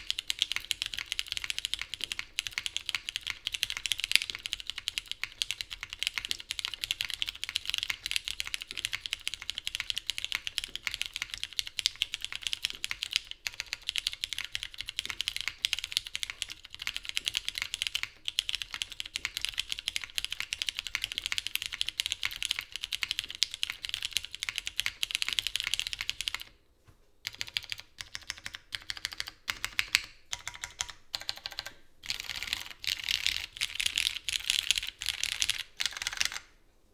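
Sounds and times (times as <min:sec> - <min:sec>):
typing on mechanical keyboard: 0:00.0 - 0:26.6, 0:27.2 - 0:36.5.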